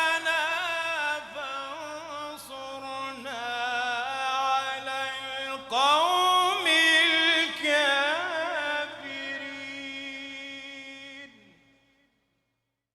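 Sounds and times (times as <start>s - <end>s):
solo voice reciting melodically: 0.0s - 11.6s.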